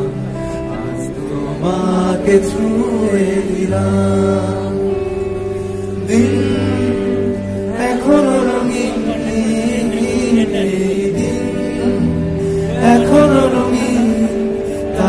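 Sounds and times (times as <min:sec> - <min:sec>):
electric guitar: 0:00.0 - 0:15.0
keyboards playing held notes: 0:00.0 - 0:15.0
person singing: 0:00.0 - 0:15.0.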